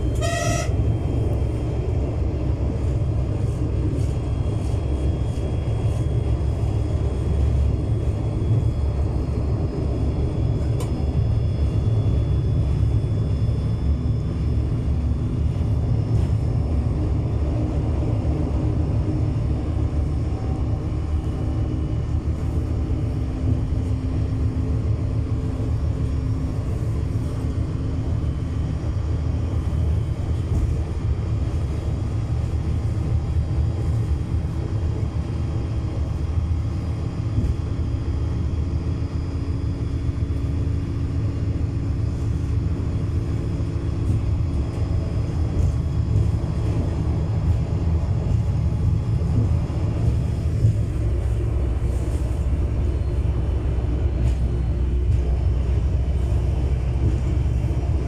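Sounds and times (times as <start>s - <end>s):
railcar engine and wheels rumbling: 0.0s - 58.0s.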